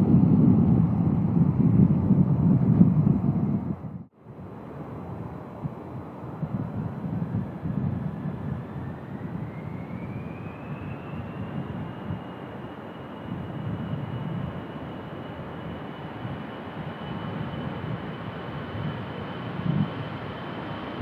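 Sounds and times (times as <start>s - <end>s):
jet engines rumbling and whining: 0.0s - 21.0s
wind buffeting microphone: 0.0s - 21.0s.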